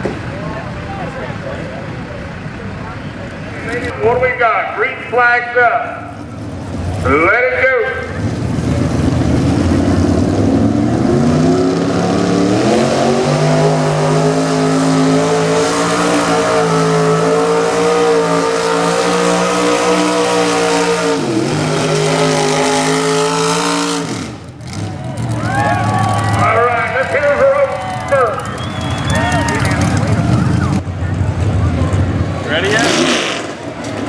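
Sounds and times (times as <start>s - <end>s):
pulling truck engine at full throttle: 0.0s - 34.0s.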